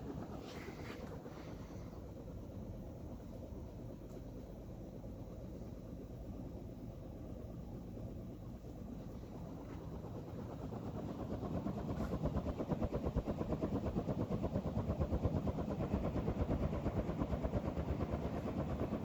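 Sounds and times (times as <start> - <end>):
ceiling fan whooshing: 0.0 - 19.0.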